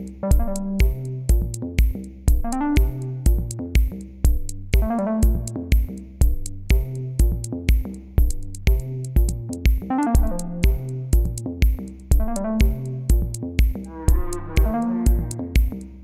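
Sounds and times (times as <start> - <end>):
electronic music with steady beat: 0.0 - 16.0.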